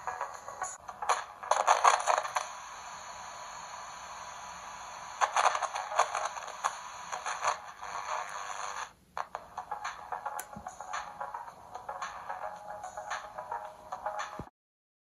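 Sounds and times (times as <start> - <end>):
radio static hiss: 0.0 - 14.5.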